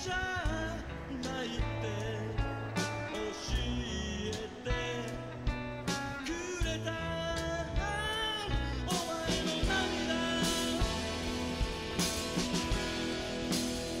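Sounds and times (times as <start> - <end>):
rock song with guitar and drums: 0.0 - 14.0.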